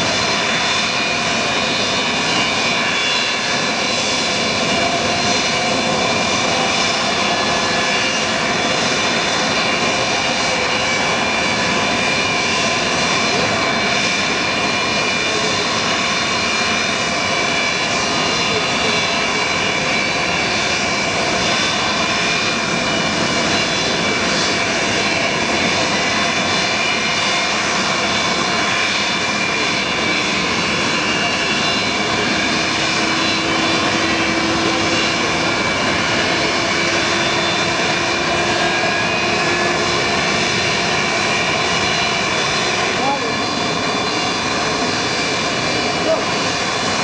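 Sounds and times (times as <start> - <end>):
jet engines running: 0.0 - 47.0.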